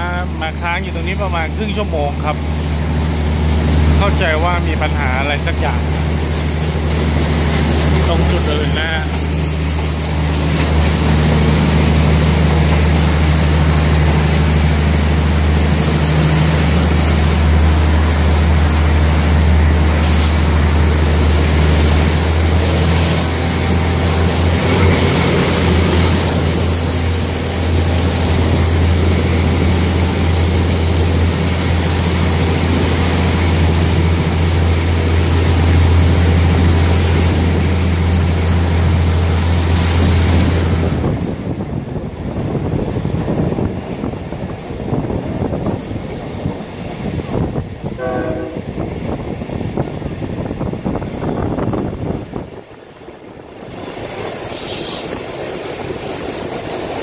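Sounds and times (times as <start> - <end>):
diesel engine drone: 0.0 - 54.4
rush of wheels and air: 1.4 - 57.0.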